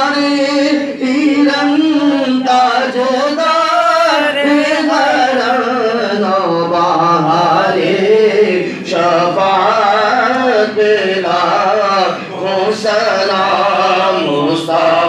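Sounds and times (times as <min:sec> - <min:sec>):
man singing a devotional chant: 0:00.0 - 0:15.0.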